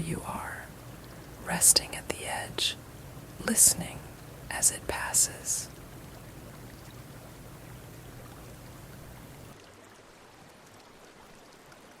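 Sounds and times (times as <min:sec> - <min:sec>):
stream water rushing: 0:00.0 - 0:10.7.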